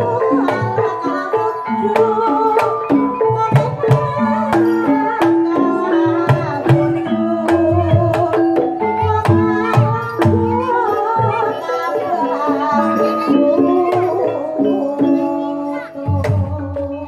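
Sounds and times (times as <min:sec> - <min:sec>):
person singing: 0:00.0 - 0:17.0.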